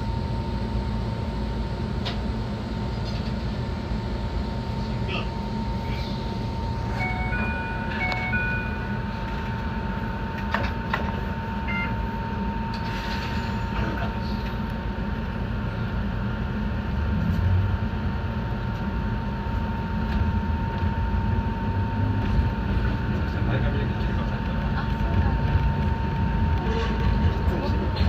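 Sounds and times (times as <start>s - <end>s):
electric train rumbling: 0.0s - 28.0s.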